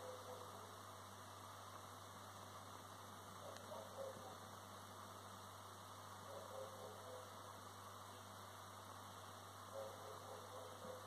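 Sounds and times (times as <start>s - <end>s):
background hiss: 0.0s - 11.0s
faint low hum: 0.0s - 11.0s.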